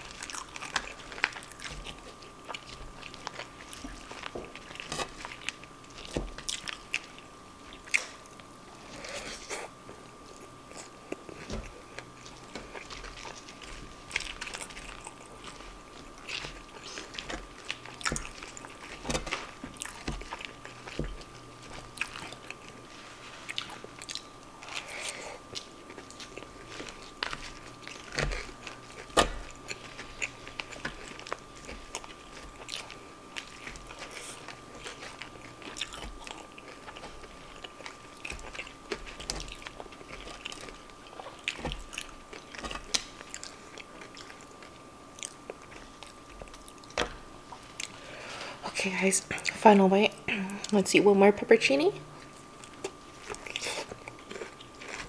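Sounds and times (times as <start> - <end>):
chewing and crunching: 0.0 - 50.8, 51.9 - 55.0.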